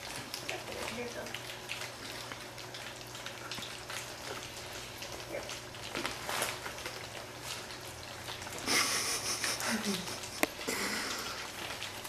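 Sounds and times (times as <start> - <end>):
puppies lapping food: 0.0 - 12.0.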